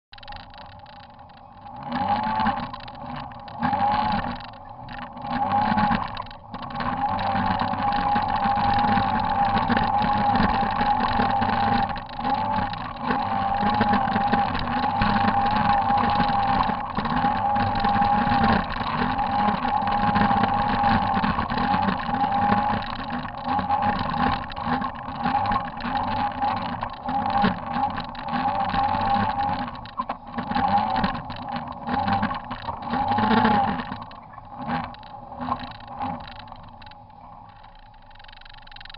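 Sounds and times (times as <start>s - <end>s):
engine running under load: 0.1s - 38.9s
wavering whine: 0.2s - 38.9s.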